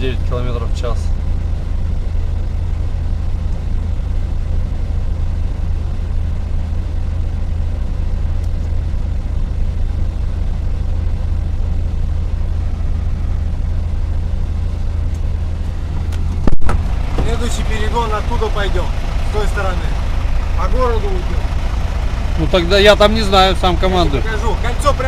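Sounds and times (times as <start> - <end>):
truck diesel engine droning: 0.0 - 25.0.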